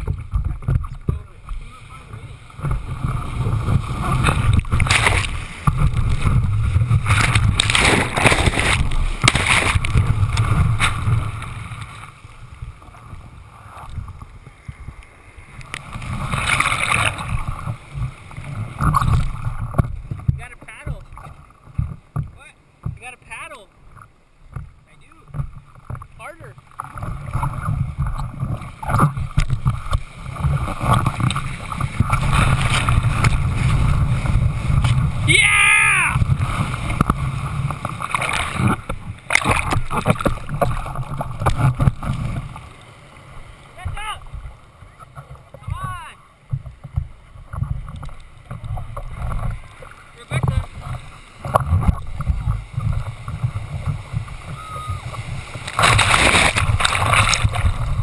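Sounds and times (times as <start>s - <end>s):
seawater sloshing and splashing: 0.0s - 58.0s.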